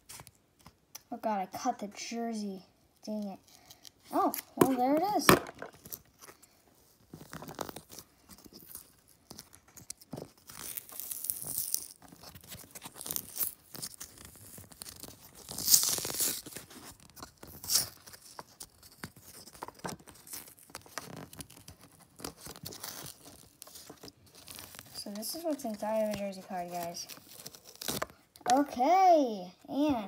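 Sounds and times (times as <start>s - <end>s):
card being torn and peeled: 3.2s - 28.7s.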